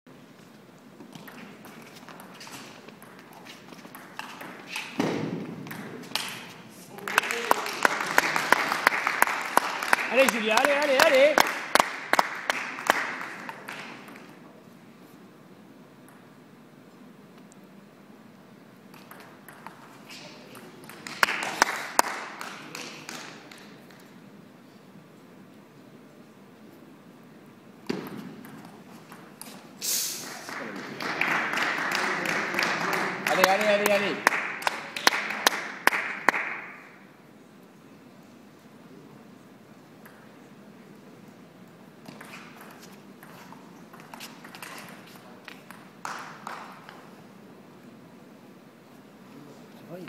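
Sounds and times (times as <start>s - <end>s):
faint hall hum: 0.1s - 50.0s.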